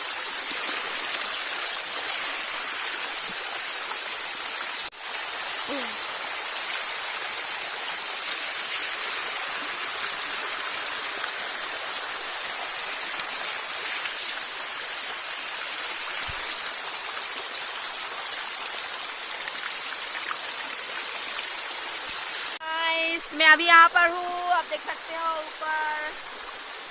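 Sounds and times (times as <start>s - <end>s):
small waterfall splashing: 0.0s - 26.9s.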